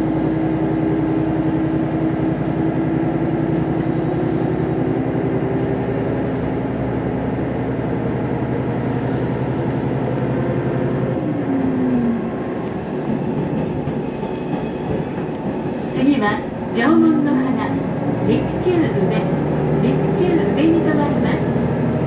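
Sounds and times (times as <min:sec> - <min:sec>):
diesel railcar engine drone: 0:00.0 - 0:22.0.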